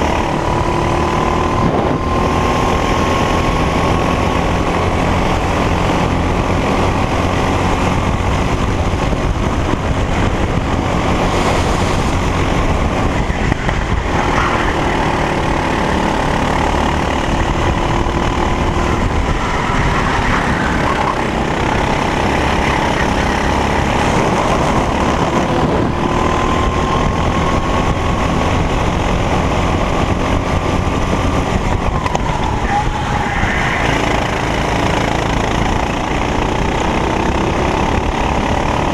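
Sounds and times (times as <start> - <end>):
racing kart engine: 0.0 - 38.9.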